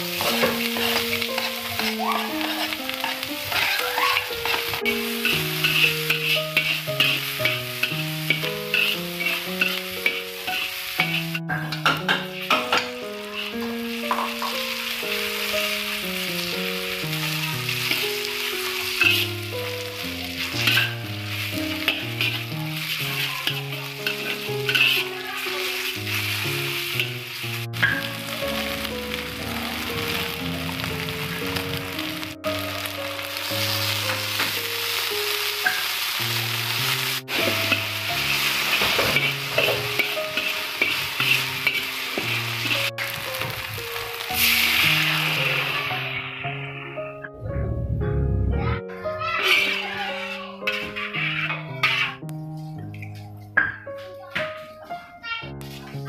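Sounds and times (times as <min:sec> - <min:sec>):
metal spatula stirring in wok: 0:00.0 - 0:46.0, 0:49.4 - 0:52.3
food sizzling in hot oil: 0:00.0 - 0:47.2, 0:49.1 - 0:52.4
soft background music: 0:00.0 - 0:56.0.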